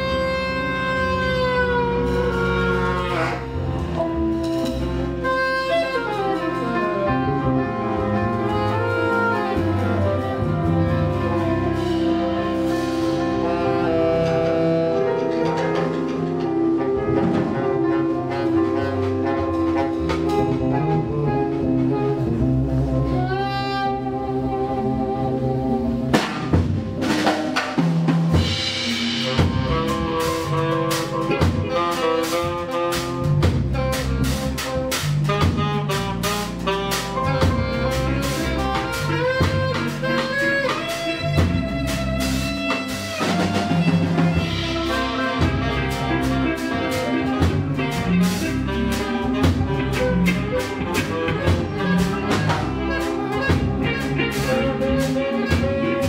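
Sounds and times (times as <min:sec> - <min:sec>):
drum kit playing: 0:00.0 - 0:56.0
saxophone: 0:00.0 - 0:56.0.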